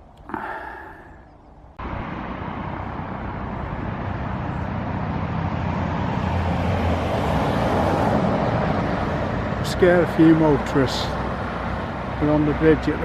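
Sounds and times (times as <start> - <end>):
deep engine hum: 0.0 - 12.6
road traffic rush: 0.0 - 13.0.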